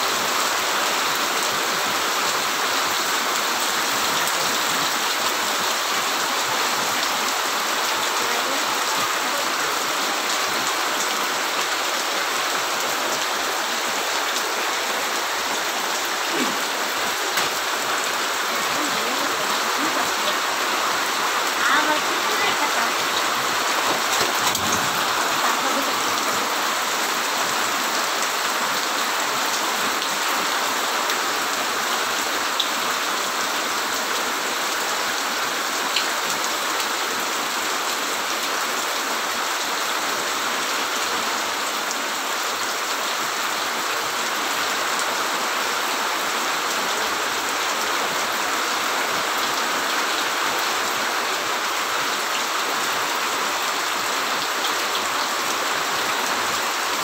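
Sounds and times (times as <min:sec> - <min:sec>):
heavy rain splashing into water: 0:00.0 - 0:57.0.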